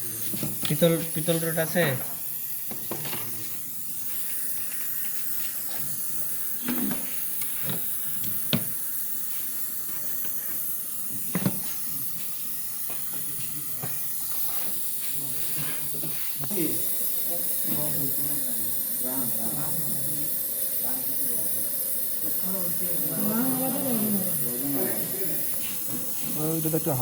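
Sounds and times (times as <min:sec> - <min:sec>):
torch flame hissing: 0:00.0 - 0:27.0.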